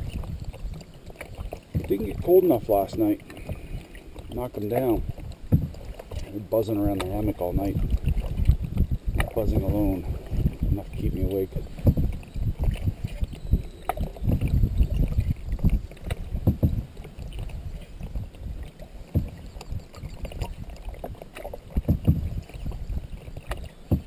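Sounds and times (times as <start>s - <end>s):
paddle strokes in water: 0.0s - 24.0s.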